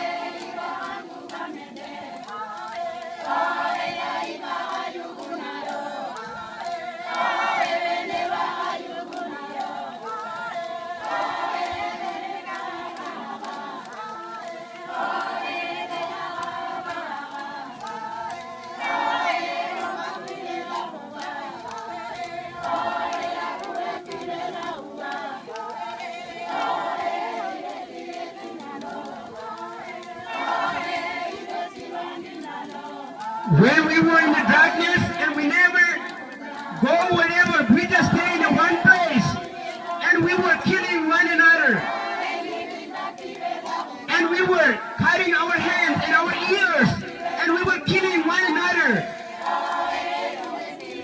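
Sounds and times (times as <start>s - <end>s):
group singing a cappella: 0.0s - 51.0s.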